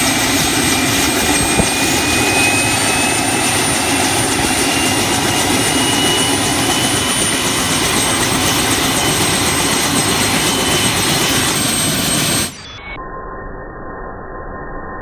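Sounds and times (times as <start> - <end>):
helicopter engine and rotor noise: 0.0 - 13.0
helicopter turbine whine: 0.0 - 13.0.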